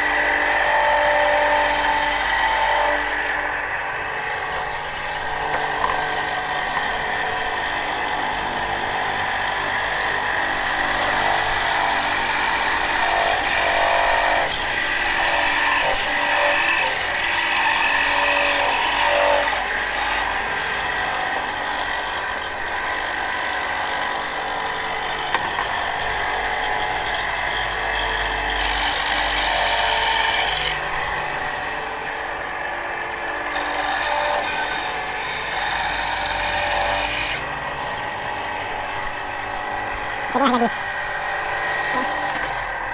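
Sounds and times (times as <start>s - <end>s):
band saw motor and blade whine: 0.0s - 42.9s
saw blade cutting wood: 0.0s - 42.9s.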